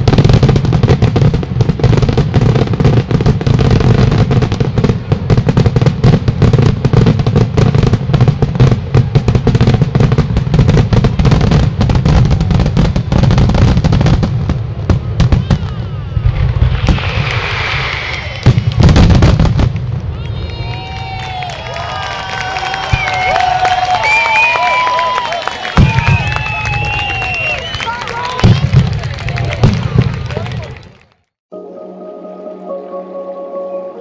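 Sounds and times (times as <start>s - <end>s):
fireworks bursting and banging: 0.0s - 31.1s
fizzing crackle of fireworks: 0.0s - 31.2s.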